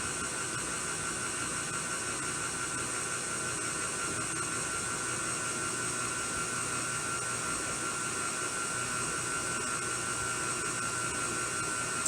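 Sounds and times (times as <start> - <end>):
stand mixer motor whirring: 0.0 - 12.0.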